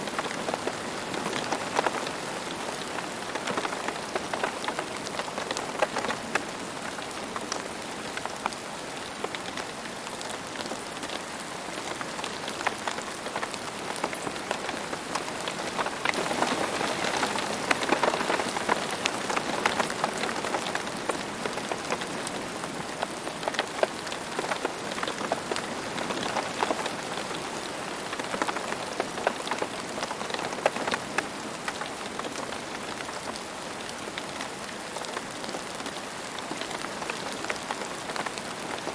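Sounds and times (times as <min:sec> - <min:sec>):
rain falling on ground: 0:00.0 - 0:38.9.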